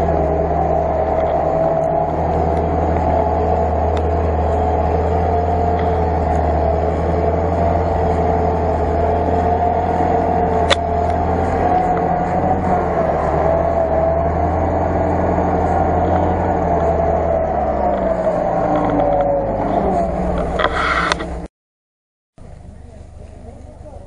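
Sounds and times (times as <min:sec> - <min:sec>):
steady whine: 0:00.0 - 0:21.5
vehicle engine droning under load: 0:00.0 - 0:21.5, 0:22.4 - 0:24.0.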